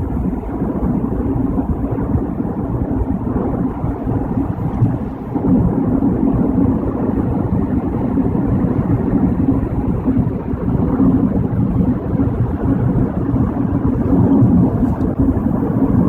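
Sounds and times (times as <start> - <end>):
car cabin road rumble: 0.0 - 16.0.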